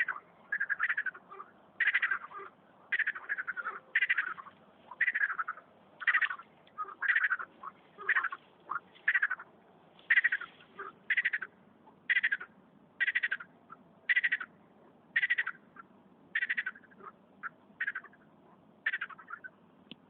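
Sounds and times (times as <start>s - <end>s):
frog croaking: 0.0s - 9.5s, 10.1s - 19.6s.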